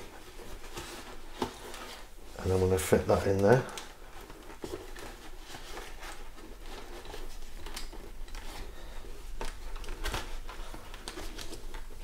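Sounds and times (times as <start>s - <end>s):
fabric lining rustling: 0.0s - 12.0s.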